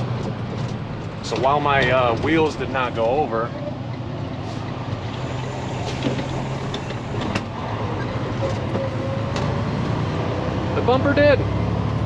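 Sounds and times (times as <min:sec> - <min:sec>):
road noise: 0:00.0 - 0:12.0
truck diesel engine droning: 0:00.0 - 0:12.0.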